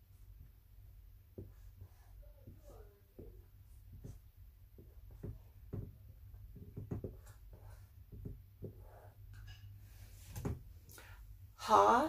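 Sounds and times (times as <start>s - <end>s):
low steady hum: 0.0s - 12.0s
marker writing on whiteboard: 0.1s - 10.7s.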